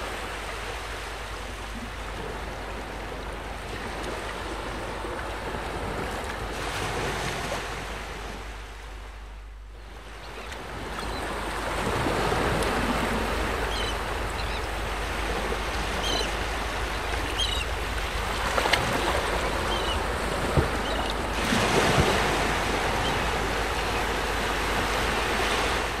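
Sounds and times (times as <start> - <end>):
waves and wind rushing: 0.0 - 26.0.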